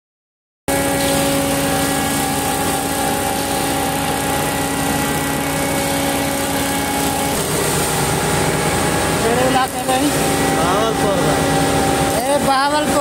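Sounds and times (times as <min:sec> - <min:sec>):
engine humming: 0:00.7 - 0:13.0.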